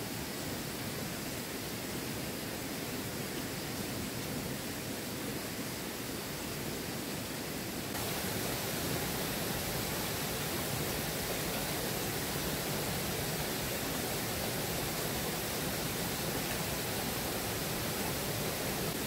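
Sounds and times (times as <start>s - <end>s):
rush of flowing water: 0.0s - 19.0s.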